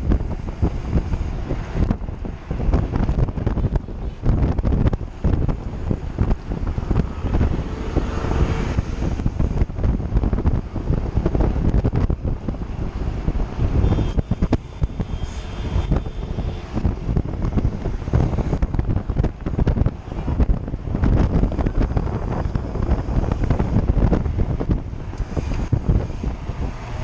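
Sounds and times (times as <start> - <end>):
road noise: 0.0 - 27.0
wind buffeting microphone: 0.0 - 27.0.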